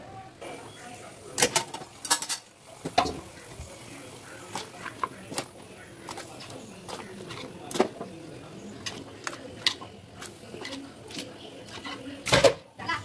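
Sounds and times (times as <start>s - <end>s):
chunks splashing into boiling water: 1.0s - 12.7s.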